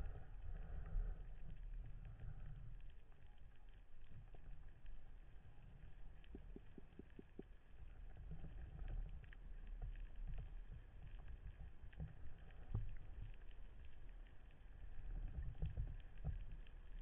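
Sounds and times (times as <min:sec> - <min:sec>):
faint clicks: 0:00.0 - 0:17.0
low underwater rumble: 0:00.0 - 0:17.0
small ticks: 0:00.0 - 0:17.0.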